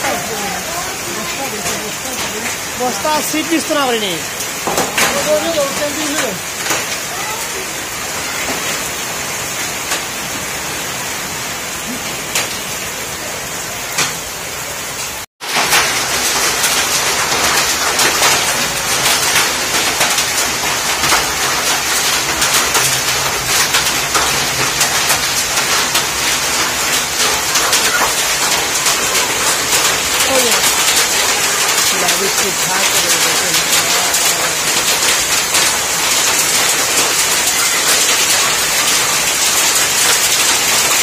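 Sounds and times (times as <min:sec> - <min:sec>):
heavy rain and hail falling: 0:00.0 - 0:41.0.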